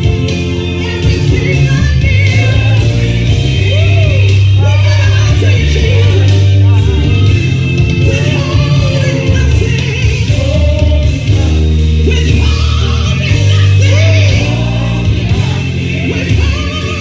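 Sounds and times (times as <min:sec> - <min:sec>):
heavy bass line: 0:00.0 - 0:17.0
voices singing gospel: 0:00.0 - 0:17.0.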